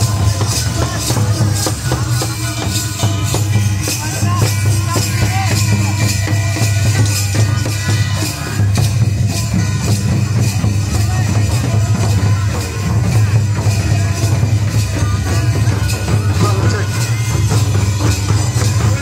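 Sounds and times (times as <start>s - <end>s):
loud music with drumbeat: 0.0s - 19.0s
voices: 0.0s - 19.0s.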